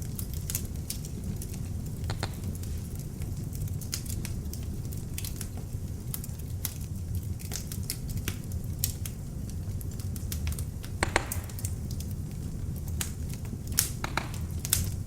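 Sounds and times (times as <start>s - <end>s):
burning wood crackling and popping: 0.0s - 15.0s
logs burning in a fireplace: 0.0s - 15.0s.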